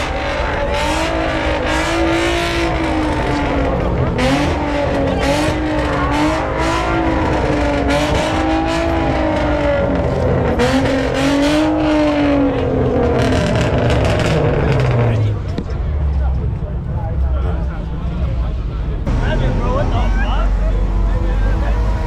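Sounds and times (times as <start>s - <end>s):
car engine revving high: 0.0s - 15.5s, 19.1s - 22.0s.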